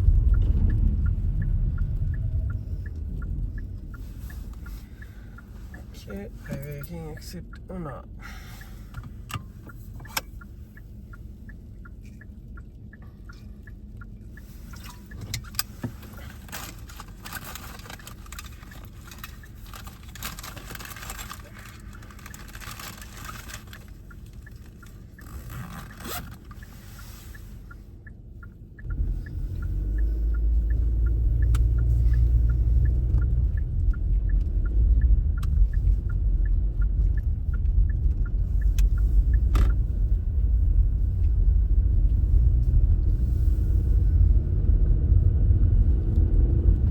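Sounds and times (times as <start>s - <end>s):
light regular ticking: 0.0s - 44.6s
car cabin road rumble: 0.0s - 46.9s.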